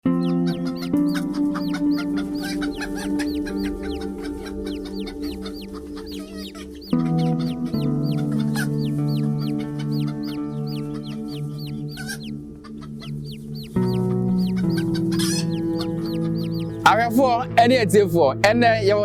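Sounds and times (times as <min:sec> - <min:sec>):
chickens peeping: 0:00.0 - 0:17.0
background music sustained chords: 0:00.0 - 0:19.0.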